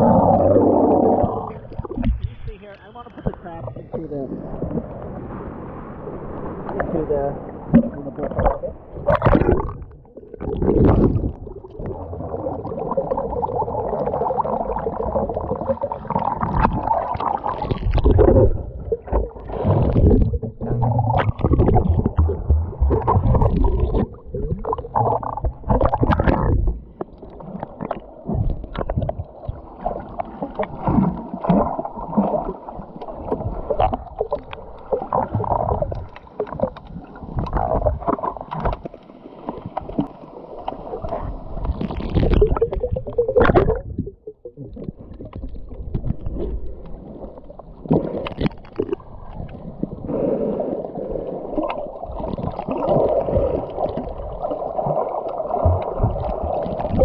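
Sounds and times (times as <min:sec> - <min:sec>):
water sloshing and gurgling: 0:00.0 - 0:57.0.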